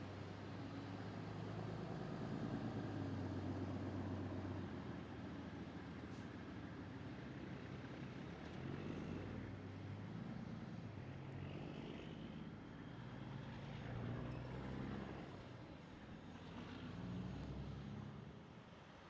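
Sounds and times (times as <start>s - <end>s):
truck engine driving past: 0.1s - 18.7s.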